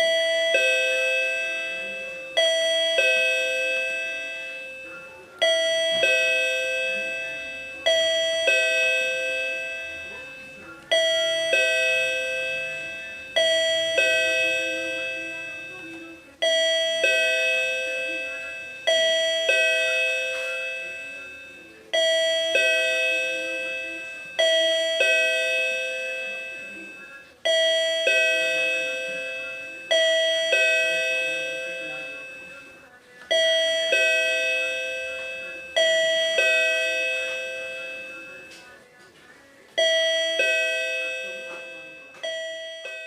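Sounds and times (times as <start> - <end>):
electronic ding-dong chime: 0.0 - 38.8, 39.8 - 43.0.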